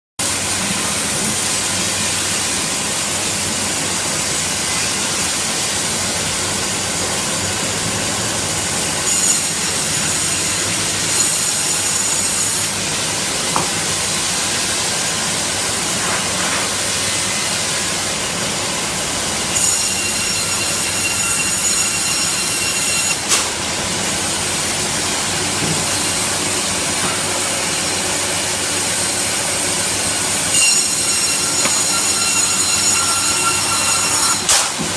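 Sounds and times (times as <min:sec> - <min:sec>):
sawmill machinery running: 0:00.2 - 0:34.9.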